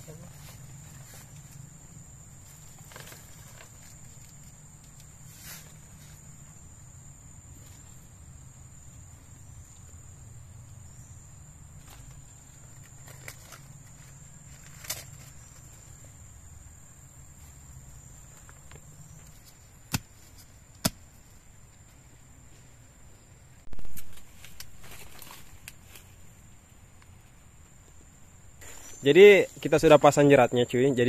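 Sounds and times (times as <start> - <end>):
rustling of dry leaves: 0.0 - 22.7, 23.6 - 31.0.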